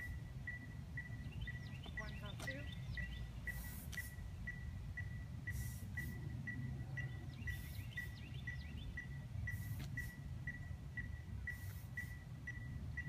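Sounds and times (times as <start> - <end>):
birds chirping: 0.0 - 13.0
high repeating chirp: 0.0 - 13.0
steady low rumble: 0.0 - 13.0.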